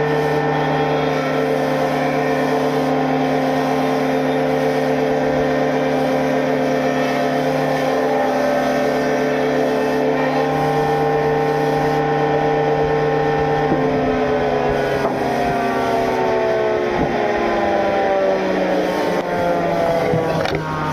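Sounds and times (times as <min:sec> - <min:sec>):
woodworking machine humming: 0:00.0 - 0:20.9.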